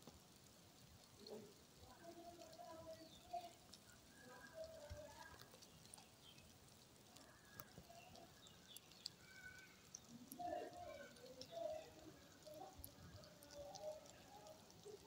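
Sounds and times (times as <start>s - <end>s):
silkworms chewing leaves: 0.0s - 15.0s.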